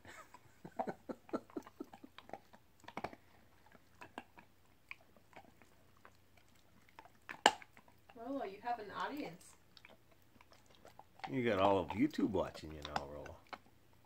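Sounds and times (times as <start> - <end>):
puppy crunching bone: 0.8 - 14.0.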